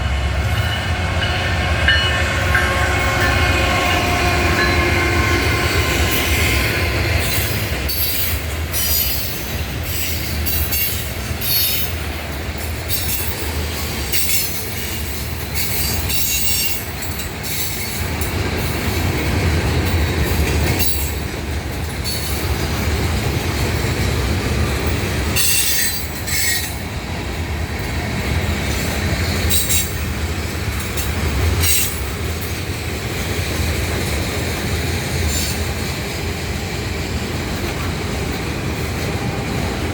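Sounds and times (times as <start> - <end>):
freight train rumble: 0.0 - 39.9
wheels clacking over rail joints: 0.0 - 39.9.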